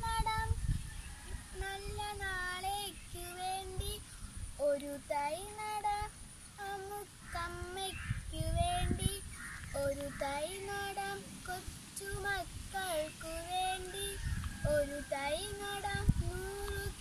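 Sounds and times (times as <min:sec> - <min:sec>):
girl singing solo: 0:00.0 - 0:00.7, 0:01.5 - 0:17.0.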